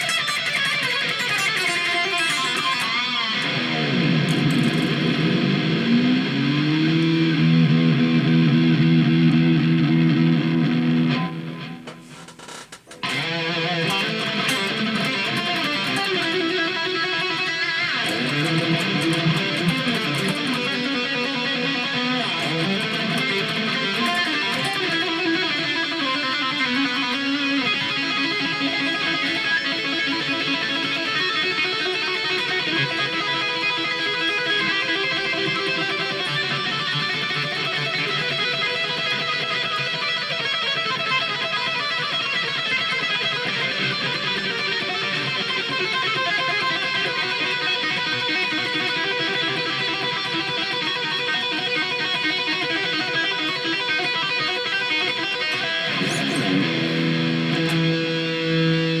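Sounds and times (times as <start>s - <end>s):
electric guitar playing rock: 0.0s - 59.0s.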